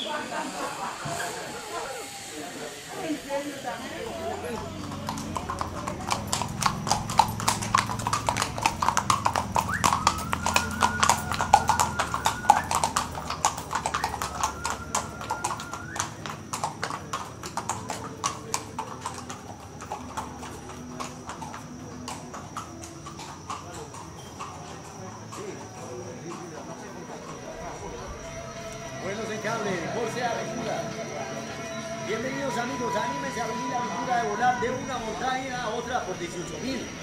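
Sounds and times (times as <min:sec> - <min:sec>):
hooves clip-clopping on pavement: 0:03.0 - 0:37.0.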